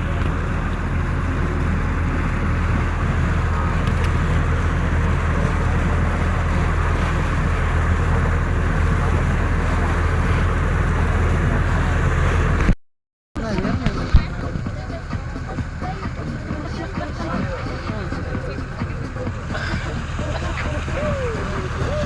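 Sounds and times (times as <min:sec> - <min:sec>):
ship engine droning: 0:00.0 - 0:12.8, 0:13.4 - 0:22.0.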